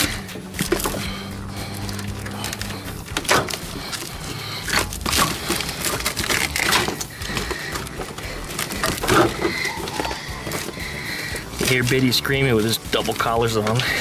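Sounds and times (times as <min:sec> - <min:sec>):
padding crackling and tearing: 0:00.0 - 0:14.0.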